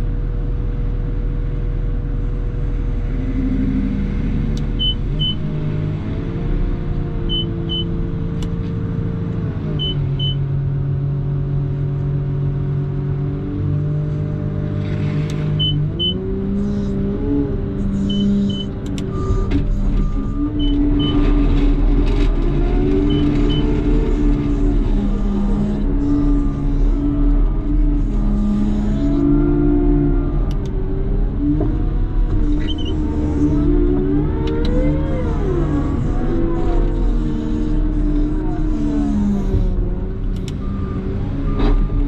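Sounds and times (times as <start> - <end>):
loader diesel engine running: 0.0 - 13.4, 14.0 - 42.0.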